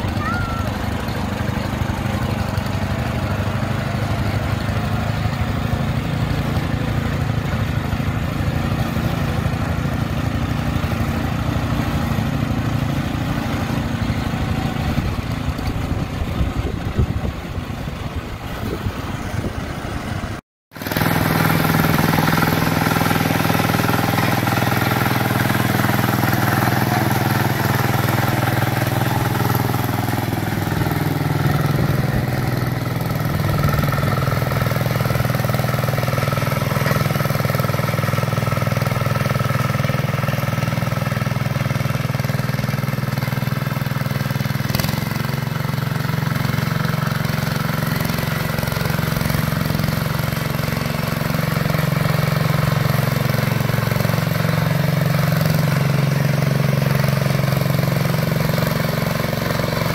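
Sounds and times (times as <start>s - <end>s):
garden tractor engines running: 0.0s - 59.9s.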